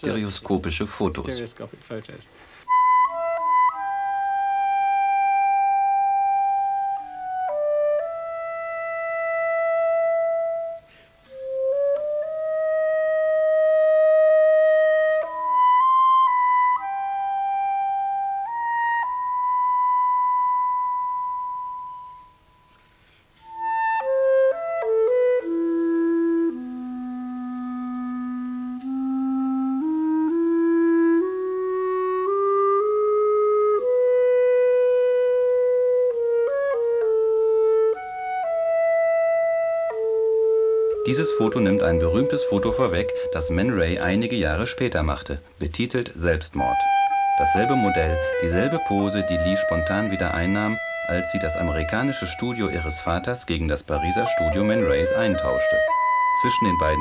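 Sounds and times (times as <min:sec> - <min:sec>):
slow solo woodwind melody: 0:02.6 - 0:45.6, 0:46.3 - 0:57.0.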